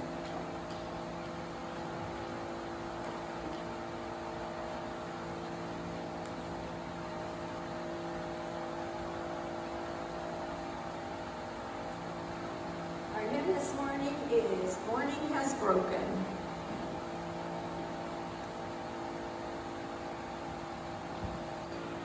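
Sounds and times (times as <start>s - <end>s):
constant low hum tones: 0.0s - 22.0s
electric fan whirring: 0.0s - 22.0s.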